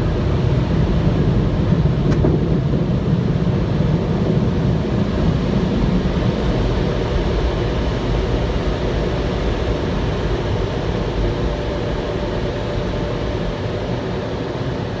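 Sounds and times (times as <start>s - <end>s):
car wash machinery rumbling: 0.0s - 15.0s.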